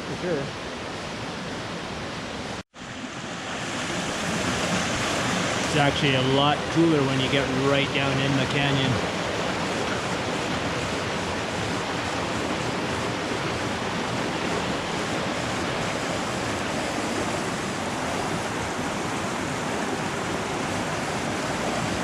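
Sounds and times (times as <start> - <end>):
creek water rushing: 0.0 - 22.0
small waterfall: 0.0 - 22.0.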